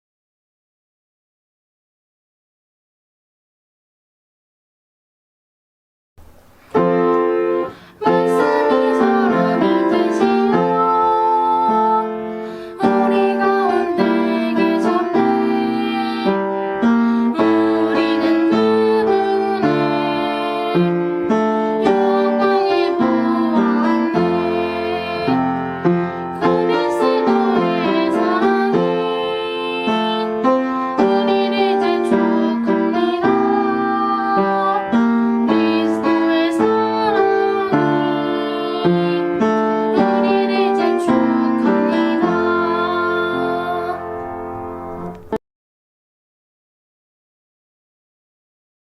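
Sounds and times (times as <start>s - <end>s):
slow piano music: 6.2s - 45.4s.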